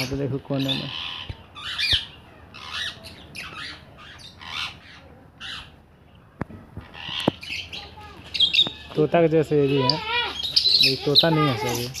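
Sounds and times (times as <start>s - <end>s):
parrots squawking: 0.0s - 5.8s, 6.8s - 12.0s.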